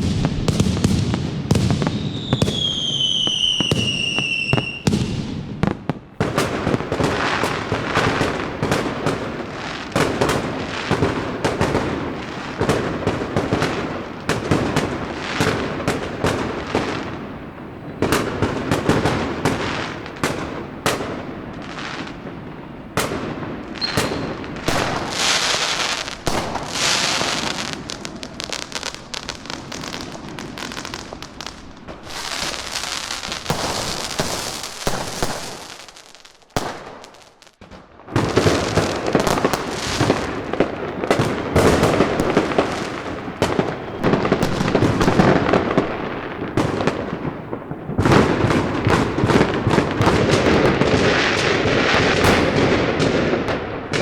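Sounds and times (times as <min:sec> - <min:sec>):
firecrackers crackling and banging: 0:00.0 - 0:54.0.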